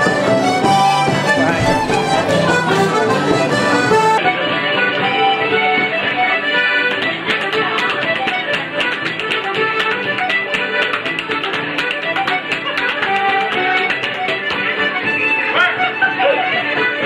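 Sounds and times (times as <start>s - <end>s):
accordion: 0.0s - 17.0s
fiddle: 0.0s - 17.0s
guitar: 0.0s - 17.0s.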